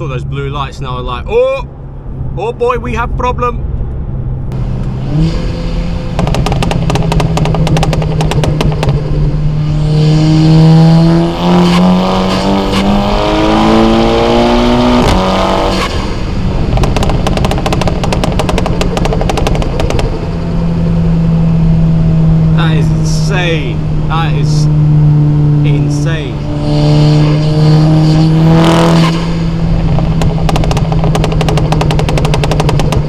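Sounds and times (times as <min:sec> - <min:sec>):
car engine revving: 0:00.0 - 0:33.0
exhaust crackling pops: 0:03.7 - 0:24.6, 0:25.6 - 0:33.0.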